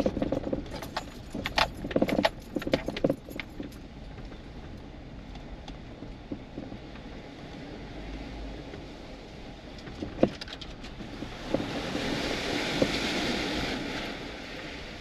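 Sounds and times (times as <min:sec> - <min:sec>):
vehicle engine low rumble: 0:00.0 - 0:15.0
vehicle rattling over ruts: 0:00.0 - 0:15.0.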